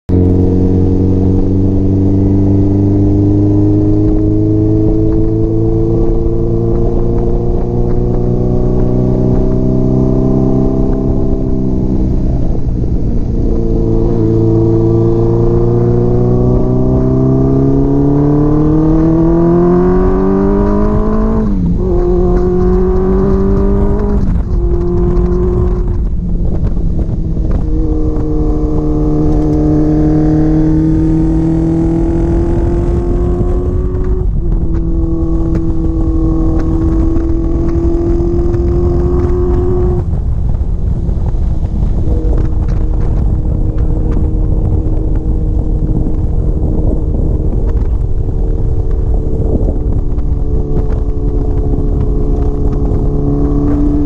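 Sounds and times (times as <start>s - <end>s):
motorcycle engine running: 0.1s - 54.0s
wind rushing: 0.1s - 54.0s.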